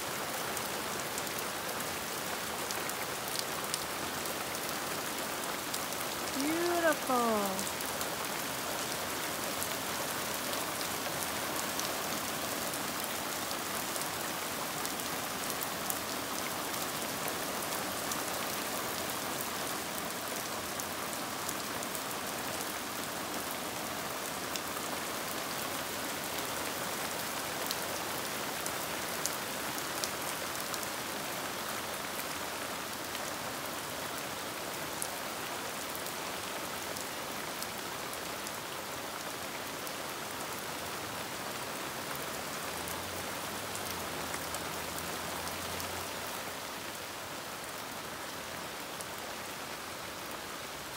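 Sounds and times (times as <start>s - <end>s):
hard rain falling: 0.0s - 50.9s.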